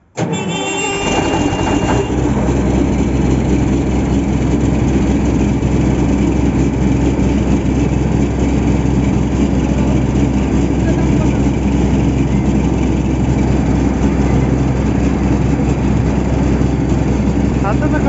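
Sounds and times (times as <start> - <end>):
diesel engine running: 0.0 - 18.0
high whine: 1.0 - 18.0.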